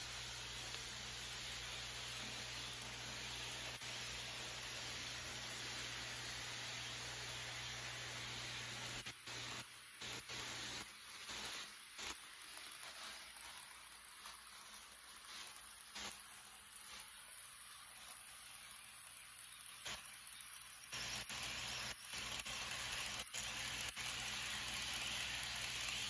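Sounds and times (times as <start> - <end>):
model train whirring and rattling: 0.0 - 26.0.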